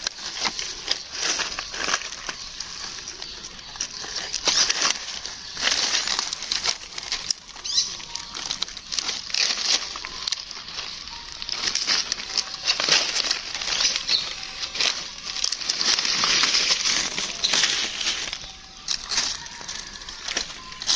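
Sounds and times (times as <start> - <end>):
rustling and crinkling: 0.0 - 20.9
small clicks and scratches: 0.0 - 20.9.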